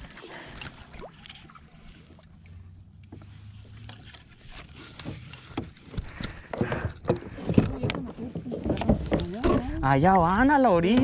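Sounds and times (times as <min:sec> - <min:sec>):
water lapping against kayak hull: 0:00.0 - 0:11.0.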